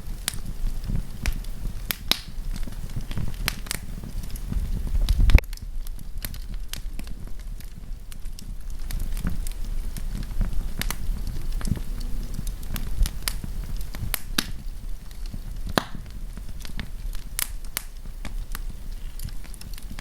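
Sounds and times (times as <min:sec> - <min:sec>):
low rumble of flames: 0:00.0 - 0:20.0
wood crackling and popping: 0:00.0 - 0:20.0.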